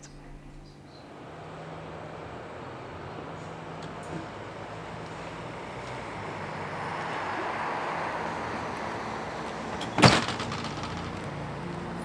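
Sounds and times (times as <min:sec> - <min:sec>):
vehicle passing by: 0:01.1 - 0:12.0.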